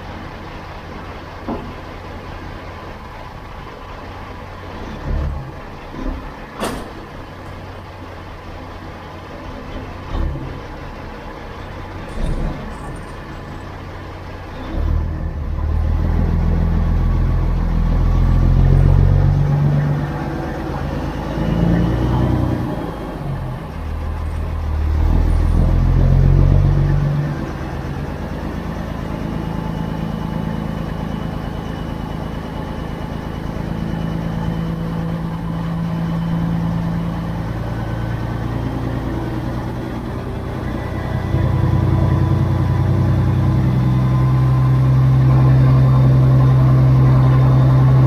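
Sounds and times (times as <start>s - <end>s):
diesel truck engine: 0.0s - 48.0s.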